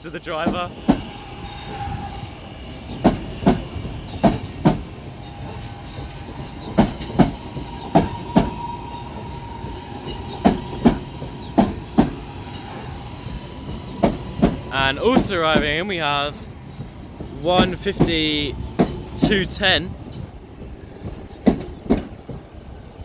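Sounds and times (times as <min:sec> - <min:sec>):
train rumble: 0:00.0 - 0:23.0
train wheels clicking over rail joints: 0:00.0 - 0:23.0.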